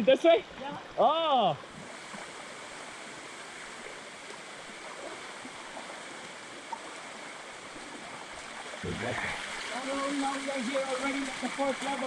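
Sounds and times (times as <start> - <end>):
water rushing from waterfall: 0.0 - 12.0.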